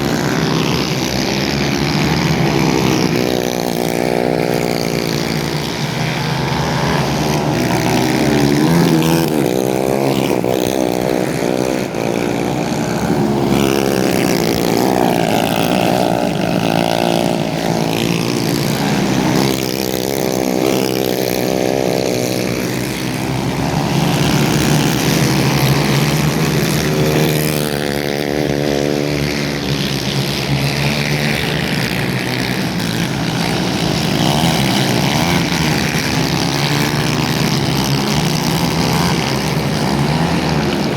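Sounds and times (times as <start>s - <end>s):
racing kart engines: 0.0s - 40.9s.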